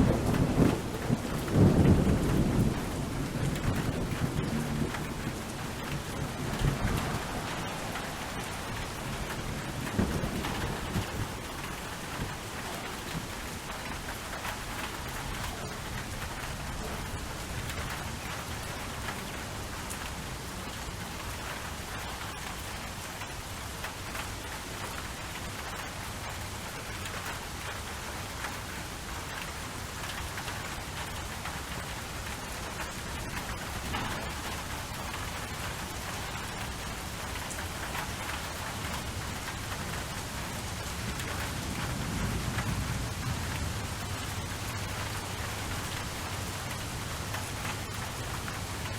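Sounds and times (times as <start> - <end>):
rain pattering: 0.0 - 48.9.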